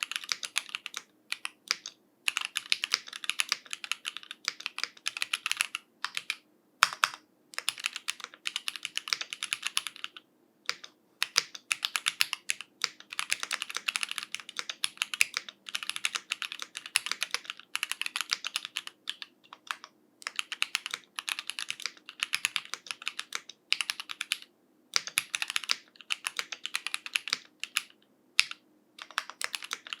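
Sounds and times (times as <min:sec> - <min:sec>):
typing on mechanical keyboard: 0:00.0 - 0:30.0.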